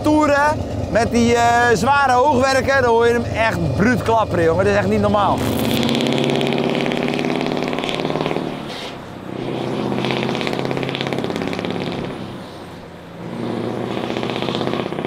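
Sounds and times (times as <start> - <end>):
diesel truck engine pulling hard: 0.0 - 15.0.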